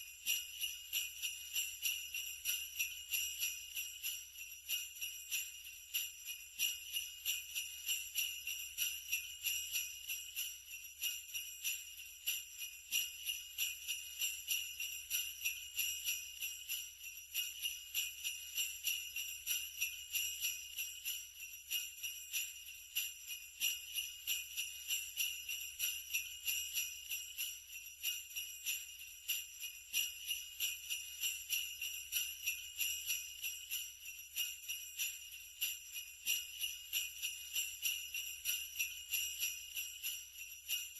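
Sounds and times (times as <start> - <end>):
sleigh bells jingling: 0.0 - 40.9.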